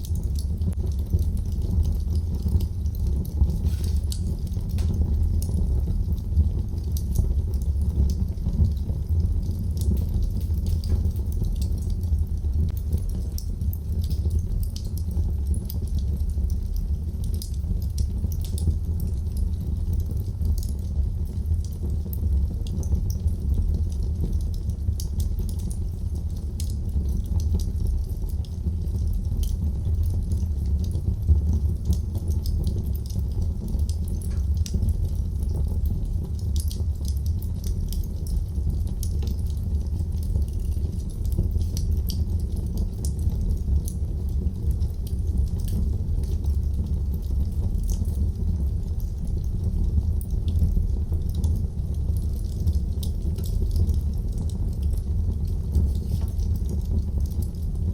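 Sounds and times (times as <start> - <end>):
fire crackles and pops: 0.0 - 57.9
fire flames rumbling: 0.0 - 57.9.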